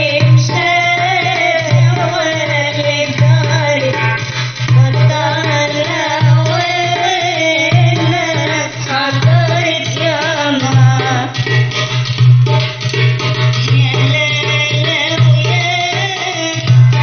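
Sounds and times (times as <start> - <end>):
woman singing: 0.0 - 11.7, 13.5 - 17.0
hand drum percussion: 0.0 - 17.0.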